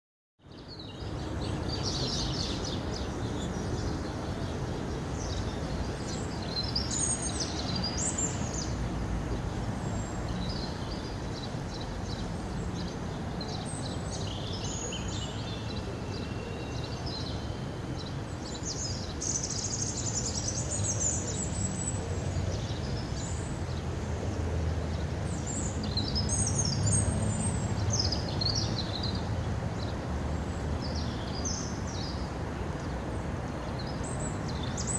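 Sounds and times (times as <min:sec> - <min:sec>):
small birds chirping: 0:00.4 - 0:24.0, 0:24.9 - 0:34.9.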